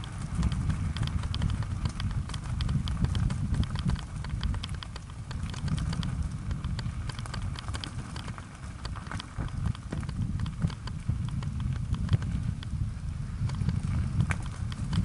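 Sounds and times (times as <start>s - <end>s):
bicycle tyres on gravel: 0.0s - 15.0s
bike rattling clicks: 0.0s - 15.0s
wind rumble on camera: 0.0s - 15.0s.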